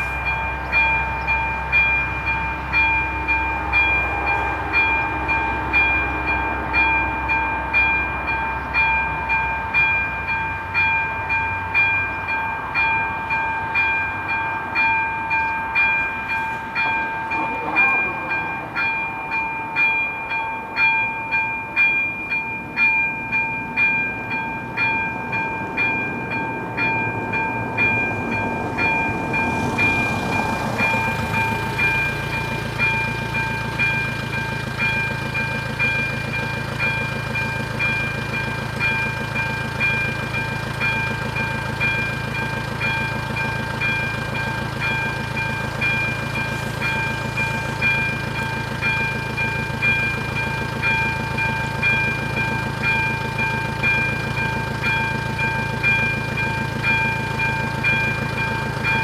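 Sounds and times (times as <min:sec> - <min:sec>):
level crossing bell dinging: 0:00.0 - 0:59.0.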